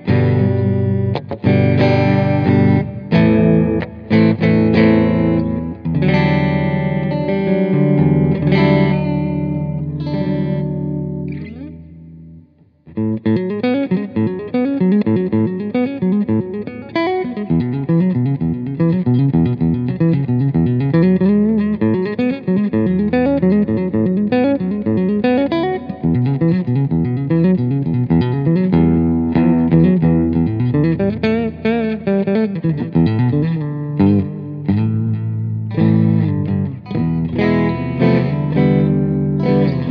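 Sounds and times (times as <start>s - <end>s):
electric guitar chords: 0.0s - 39.9s.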